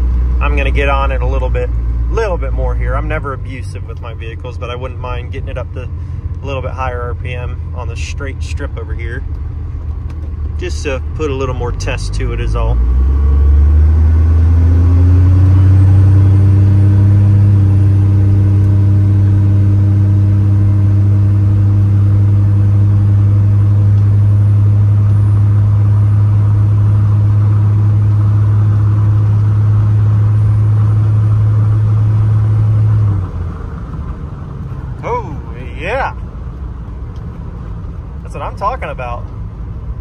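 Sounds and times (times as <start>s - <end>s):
turbo diesel engine pulling hard: 0.0s - 40.0s.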